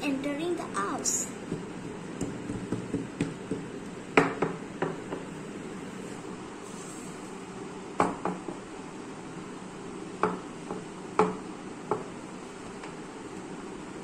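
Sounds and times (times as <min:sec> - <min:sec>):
room hiss: 0:00.0 - 0:14.0.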